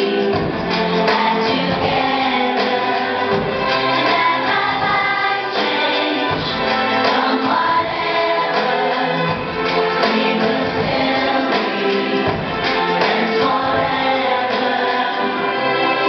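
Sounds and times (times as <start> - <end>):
children singing in unison: 0.0 - 16.0
instrumental accompaniment: 0.0 - 16.0.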